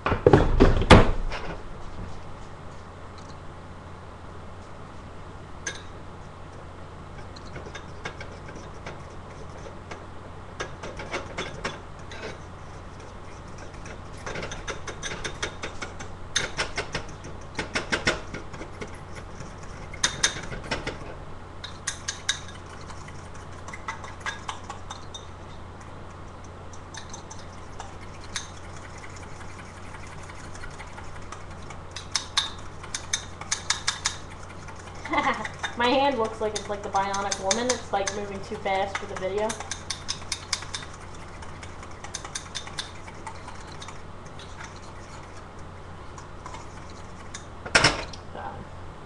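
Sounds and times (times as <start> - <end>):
steady low hum: 0.0 - 49.0
utensil scraping a bowl: 7.1 - 10.0, 10.6 - 47.5.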